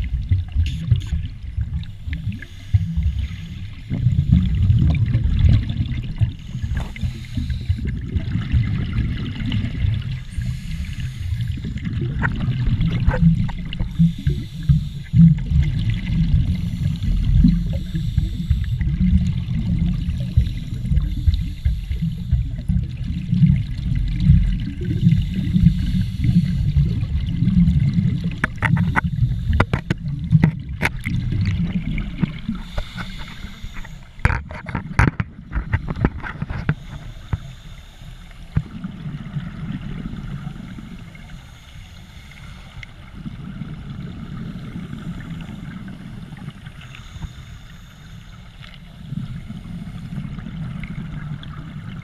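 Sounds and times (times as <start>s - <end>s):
underwater bubbles gurgling: 0.0s - 52.0s.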